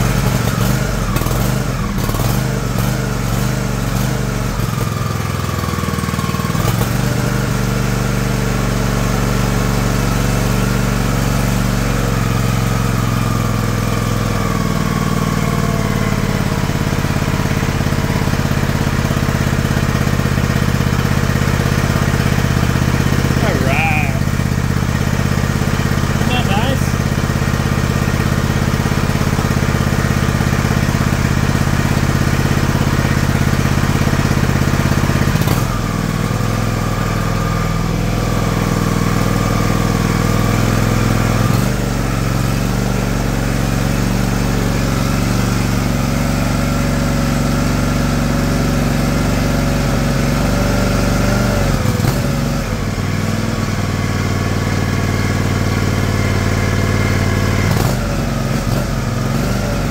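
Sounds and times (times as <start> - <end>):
lawn tractor engine running: 0.0 - 59.9.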